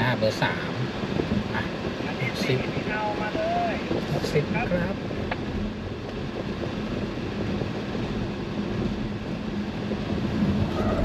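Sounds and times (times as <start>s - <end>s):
road tyre and wind noise in car: 0.0s - 11.0s.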